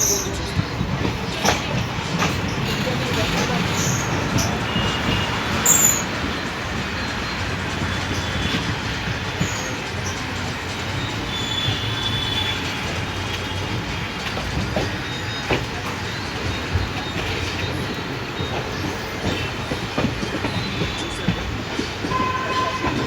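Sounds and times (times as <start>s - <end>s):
high wheel squeals: 0.0s - 23.0s
train wheels rumbling on rail: 0.0s - 23.0s.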